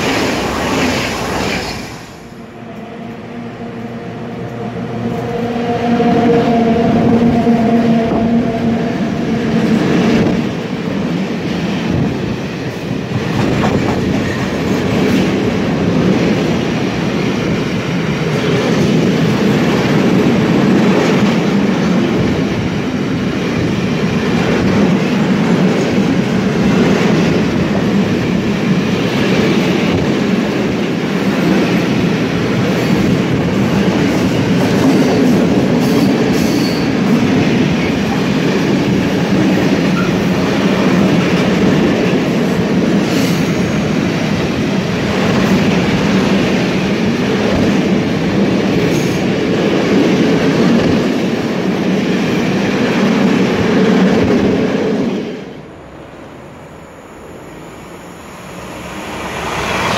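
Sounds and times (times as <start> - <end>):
freight train wheels rumbling: 0.0 - 59.9
train clatter: 4.4 - 54.9.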